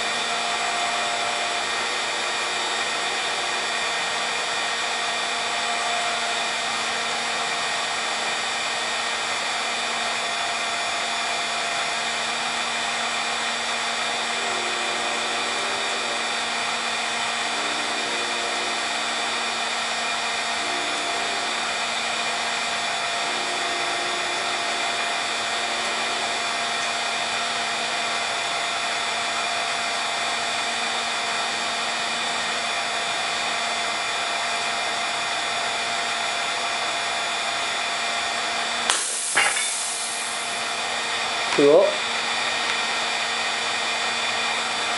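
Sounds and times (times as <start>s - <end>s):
heat gun running: 0.0s - 44.9s.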